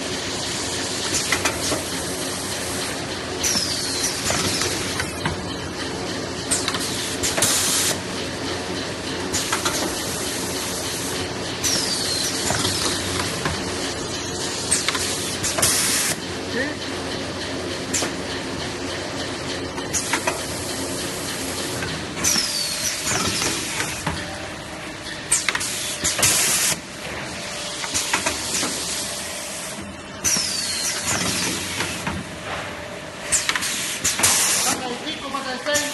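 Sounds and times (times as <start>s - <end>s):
packing machine hum: 0.0s - 35.9s.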